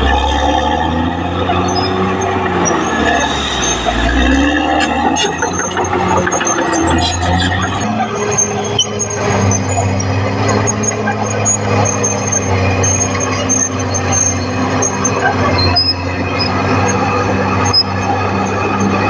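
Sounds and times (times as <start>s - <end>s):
high squeaks: 0.0s - 18.2s
bulldozer diesel engine running: 0.0s - 19.0s.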